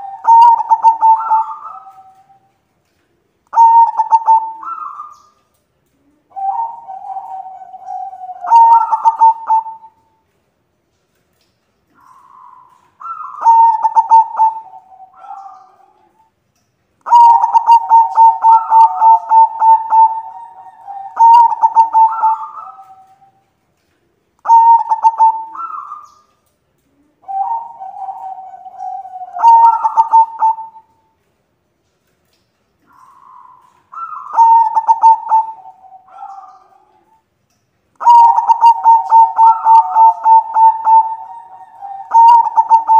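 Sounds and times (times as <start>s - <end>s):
dove cooing: 0.0s - 10.1s, 11.9s - 16.3s, 17.0s - 23.5s, 24.1s - 31.2s, 32.8s - 37.3s, 38.0s - 42.9s.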